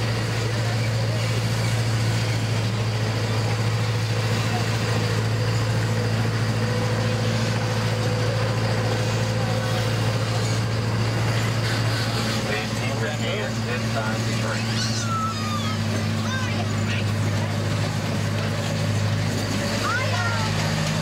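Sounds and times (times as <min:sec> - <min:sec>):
miniature train engine droning: 0:00.0 - 0:21.0.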